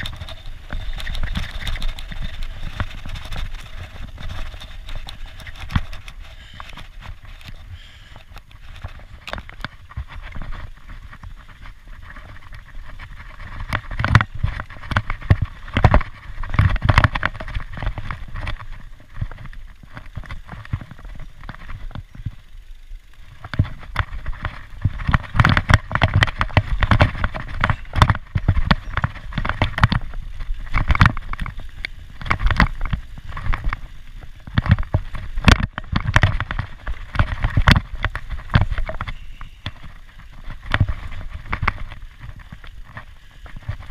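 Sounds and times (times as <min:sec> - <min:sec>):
bike knocking and rattling: 0:00.0 - 0:43.9
bike tyres on dirt trail: 0:00.0 - 0:43.9.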